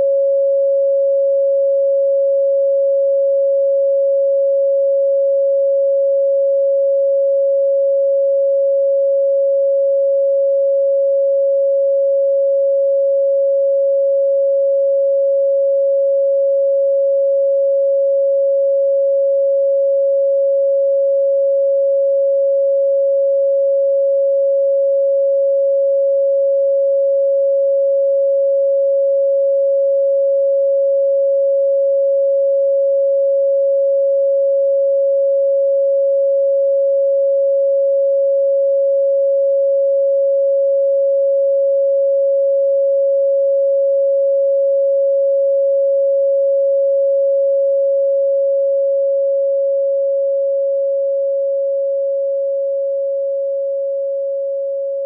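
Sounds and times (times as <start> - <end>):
steady sine tone: 0.0 - 55.0.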